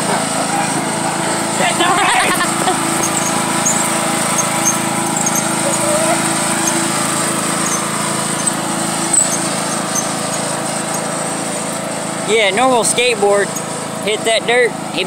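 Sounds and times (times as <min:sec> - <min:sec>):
riding lawn mower engine: 0:00.0 - 0:15.0.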